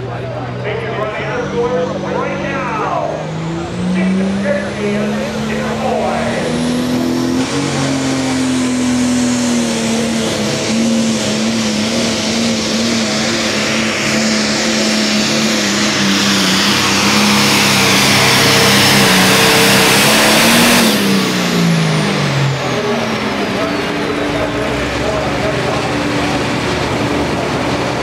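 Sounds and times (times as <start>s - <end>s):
tractor engine at full throttle: 0.0s - 28.0s.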